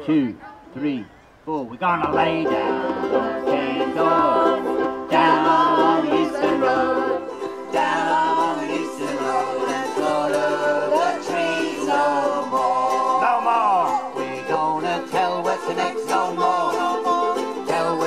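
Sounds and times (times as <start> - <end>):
people singing together: 2.0 - 18.0
ukulele strumming: 2.0 - 18.0.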